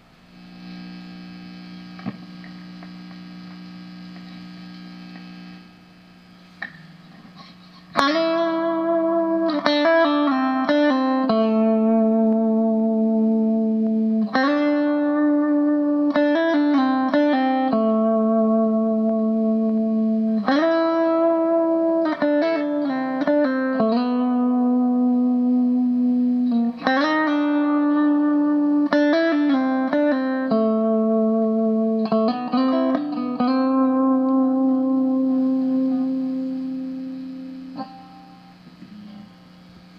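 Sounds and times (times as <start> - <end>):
electric guitar chords ringing: 0.0 - 39.9.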